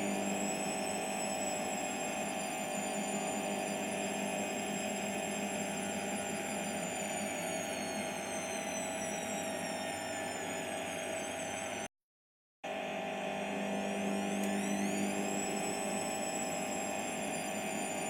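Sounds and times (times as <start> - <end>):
washing machine spinning: 0.0 - 11.8, 12.7 - 18.0
high motor whine: 0.0 - 11.9, 12.7 - 18.0.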